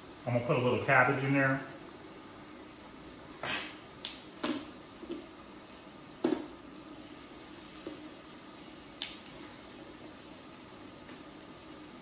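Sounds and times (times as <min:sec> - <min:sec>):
meat sizzling on grill plate: 0:00.0 - 0:12.0.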